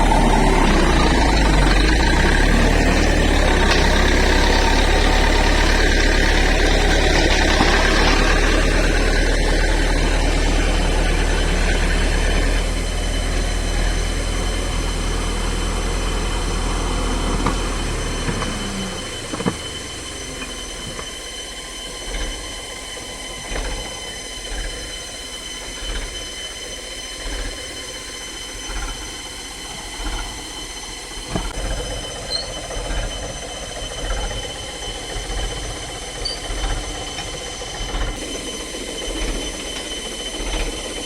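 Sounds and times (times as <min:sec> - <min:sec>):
bulldozer diesel engine: 0:00.0 - 0:41.0
high-pitched whine: 0:00.0 - 0:41.0.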